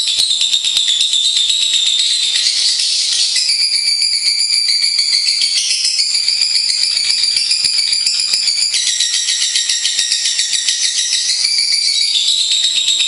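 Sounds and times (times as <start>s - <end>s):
lovebird chattering trill: 0.0s - 13.0s.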